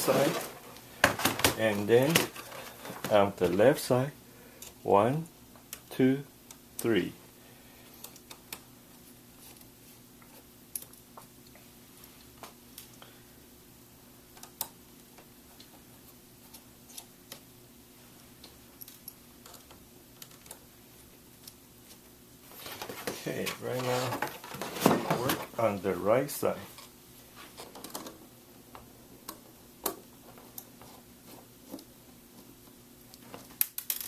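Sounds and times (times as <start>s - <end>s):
faint hum: 0.0s - 33.8s.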